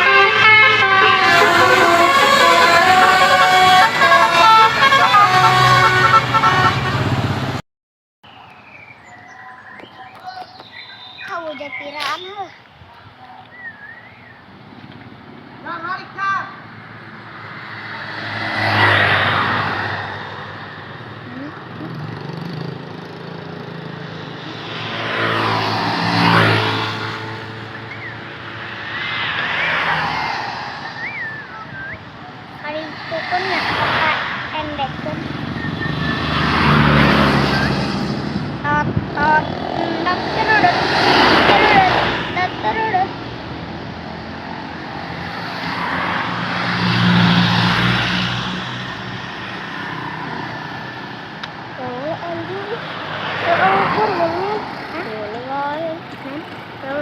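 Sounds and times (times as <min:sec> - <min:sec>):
bus driving past: 0:00.0 - 0:07.6, 0:16.5 - 0:57.0.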